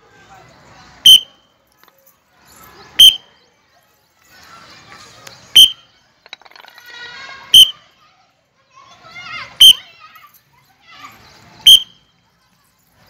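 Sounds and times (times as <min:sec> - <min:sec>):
hubbub of children's voices: 0:00.0 - 0:13.0.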